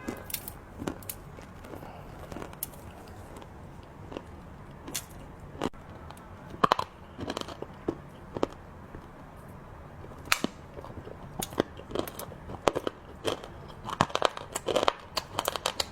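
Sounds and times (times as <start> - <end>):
chewing crunchy sweets: 0.0 - 15.9.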